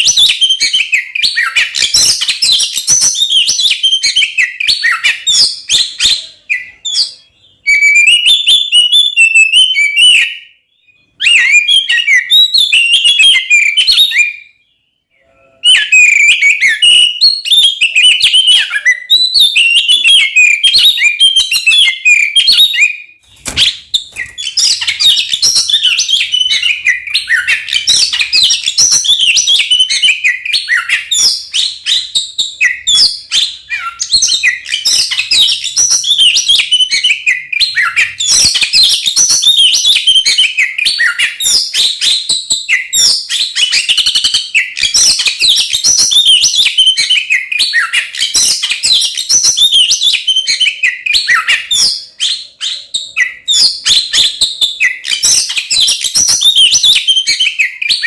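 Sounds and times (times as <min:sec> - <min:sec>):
bird singing rapid chirps: 0:00.0 - 0:58.0.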